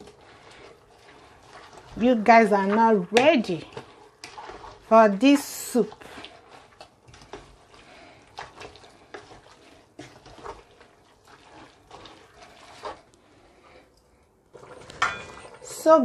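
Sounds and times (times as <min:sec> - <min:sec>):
spoon stirring thick soup: 0:00.0 - 0:15.7.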